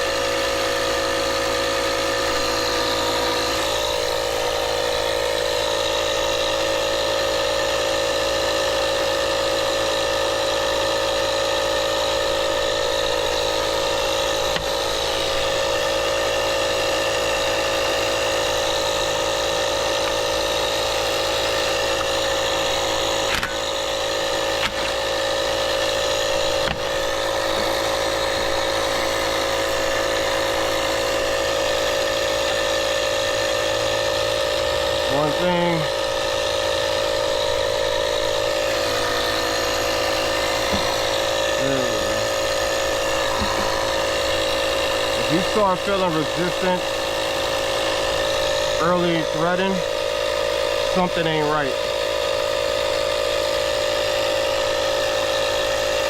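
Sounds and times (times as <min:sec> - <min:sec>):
engine idling drone: 0:00.0 - 0:56.0.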